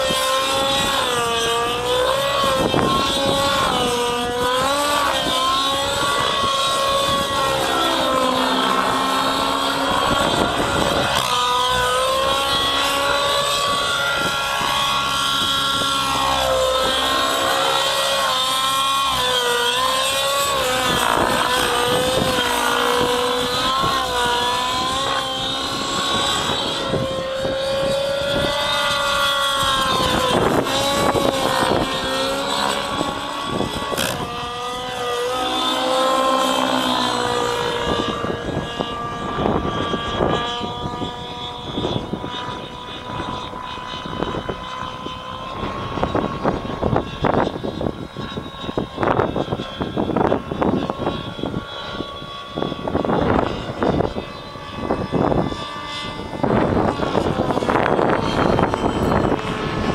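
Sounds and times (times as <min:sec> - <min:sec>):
rc helicopter engine whine: 0:00.0 - 0:59.9.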